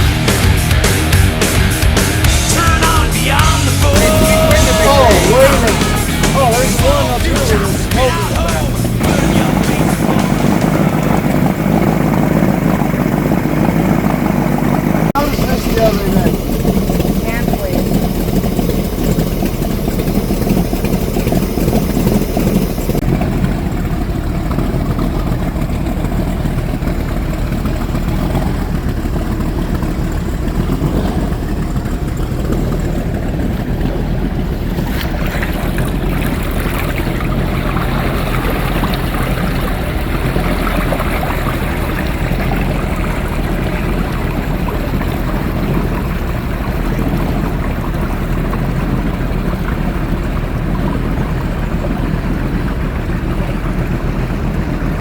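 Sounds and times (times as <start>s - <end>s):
motorboat engine running: 0.0s - 55.0s
water rushing along hull: 0.0s - 55.0s.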